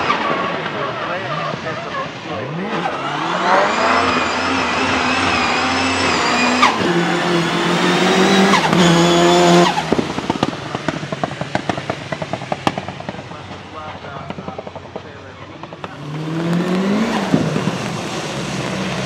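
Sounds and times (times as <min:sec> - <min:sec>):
exhaust popping: 0:00.0 - 0:19.0
turbocharged engine revving: 0:00.0 - 0:19.0.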